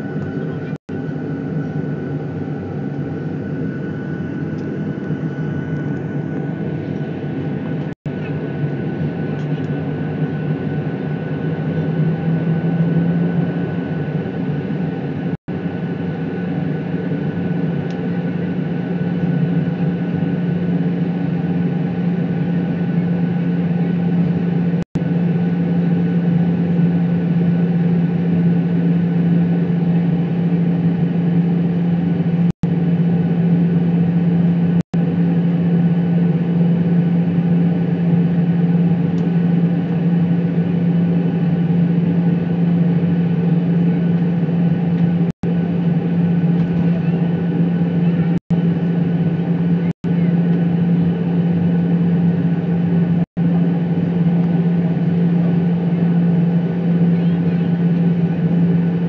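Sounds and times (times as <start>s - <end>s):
high jet engine whine: 0.0s - 59.0s
jet engine drone: 0.0s - 59.0s.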